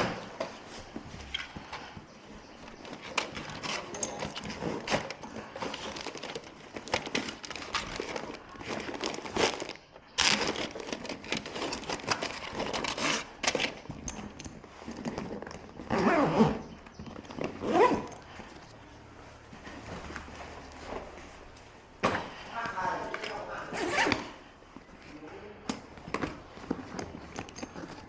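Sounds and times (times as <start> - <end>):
rustling and crinkling handling: 0.0 - 28.0.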